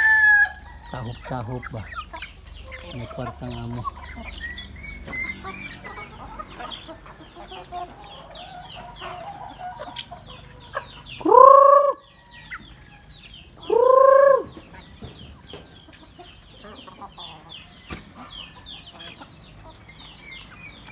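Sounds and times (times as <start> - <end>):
chicken calling: 0.0 - 19.9
chicks peeping: 0.0 - 20.9.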